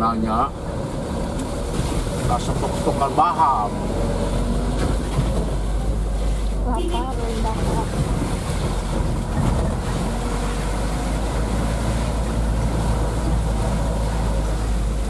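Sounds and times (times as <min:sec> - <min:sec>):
diesel engine running: 0:00.0 - 0:15.0
road noise: 0:00.0 - 0:15.0.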